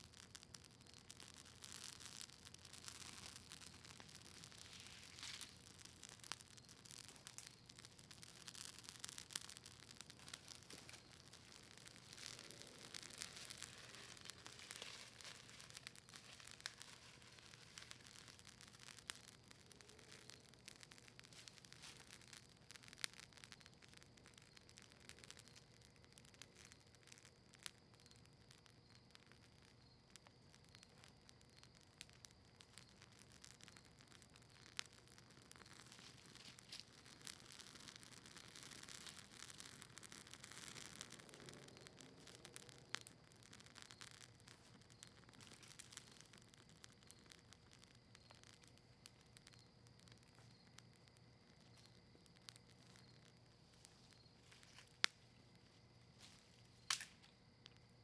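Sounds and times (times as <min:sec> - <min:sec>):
campfire crackling and popping: 0:00.0 - 0:58.0
soft fire hiss: 0:00.0 - 0:58.0.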